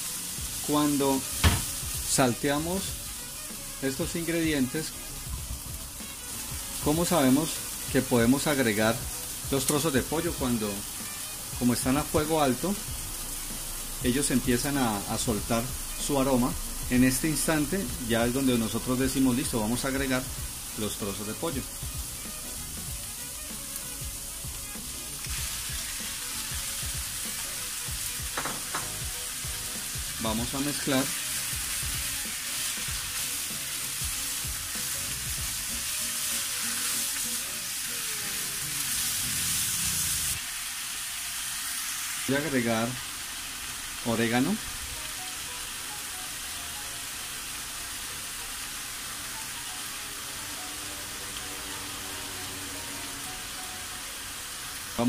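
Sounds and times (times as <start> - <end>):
vegetables sizzling in a frying pan: 0.0 - 55.0.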